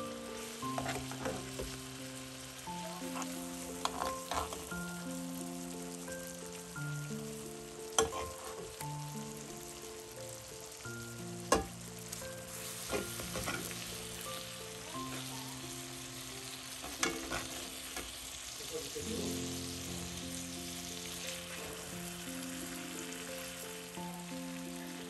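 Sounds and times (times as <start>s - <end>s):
food sizzling in a frying pan: 0.0s - 25.0s
soft background music: 0.0s - 25.0s.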